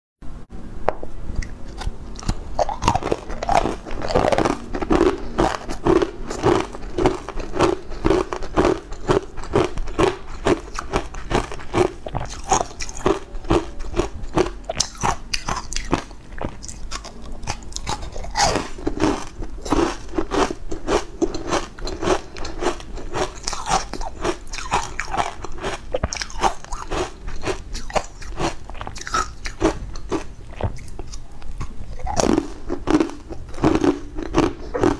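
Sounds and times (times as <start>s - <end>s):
crunching ice cubes: 1.7s - 34.9s.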